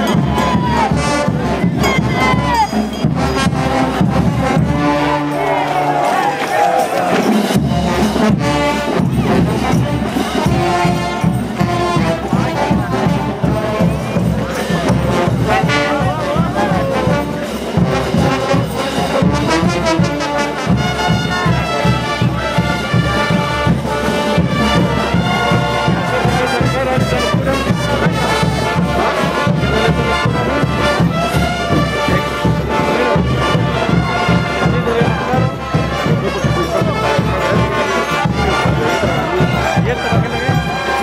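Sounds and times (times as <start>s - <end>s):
brass band playing: 0.0s - 41.0s
drum beat: 0.0s - 41.0s.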